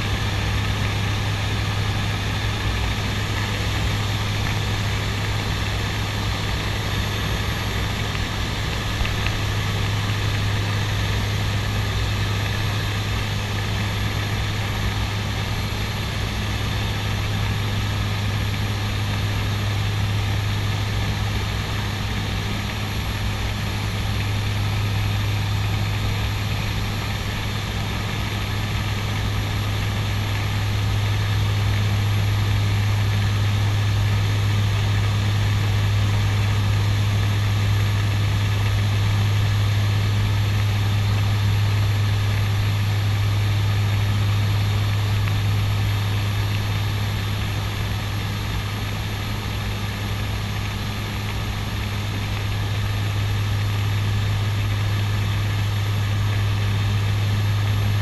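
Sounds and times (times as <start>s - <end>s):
engine and airflow rush: 0.0s - 58.0s
propeller hum: 0.0s - 58.0s.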